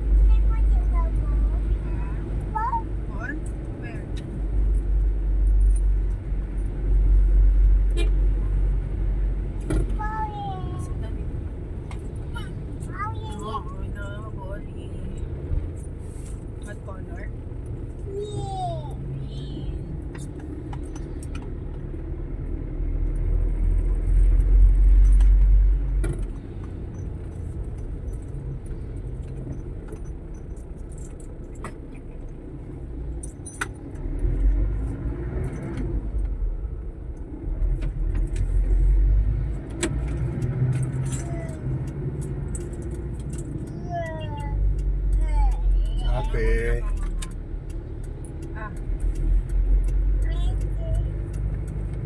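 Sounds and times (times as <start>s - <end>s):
vehicle engine and road noise: 0.0s - 52.0s.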